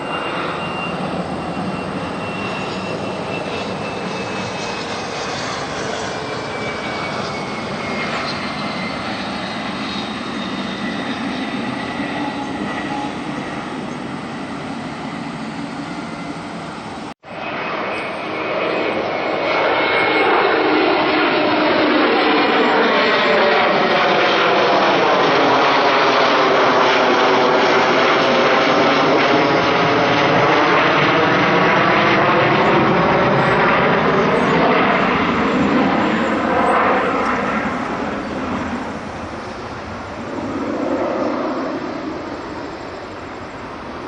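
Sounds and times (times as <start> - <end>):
jet airliner engine roar: 0.0 - 44.0.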